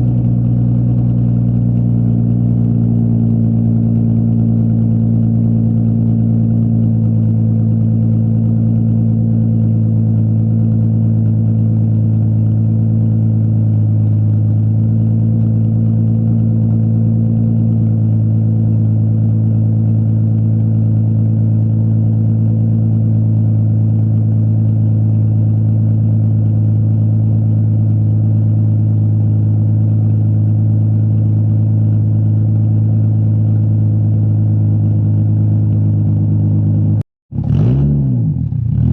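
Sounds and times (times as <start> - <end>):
loud unmuffled car engine running: 0.0 - 38.9.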